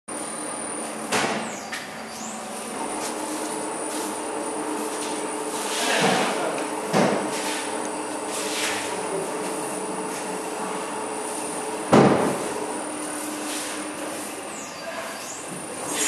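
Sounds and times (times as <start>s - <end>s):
machinery hum: 0.1s - 16.0s.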